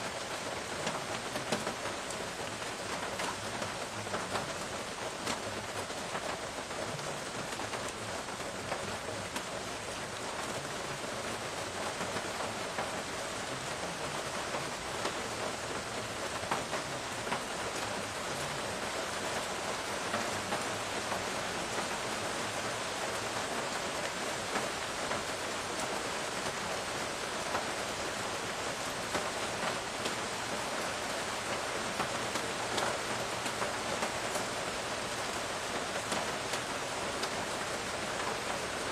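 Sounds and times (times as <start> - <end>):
rain on pavement and leaves: 0.0 - 38.9.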